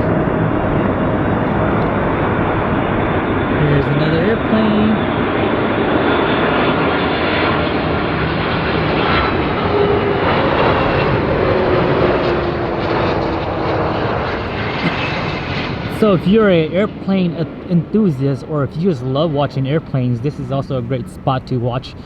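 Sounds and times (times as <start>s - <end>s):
airplane engine roar: 0.0s - 22.0s.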